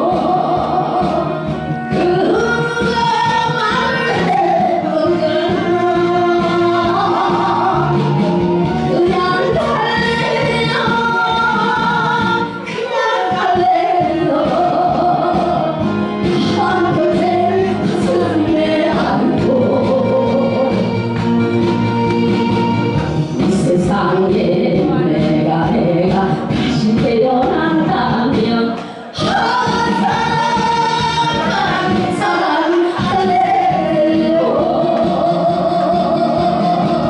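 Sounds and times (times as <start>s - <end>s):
instrumental accompaniment: 0.0s - 37.0s
woman singing into microphone: 0.0s - 37.0s.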